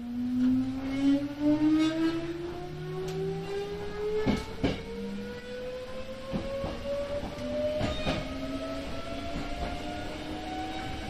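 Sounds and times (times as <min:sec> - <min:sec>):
electric train motor whine: 0:00.0 - 0:11.0.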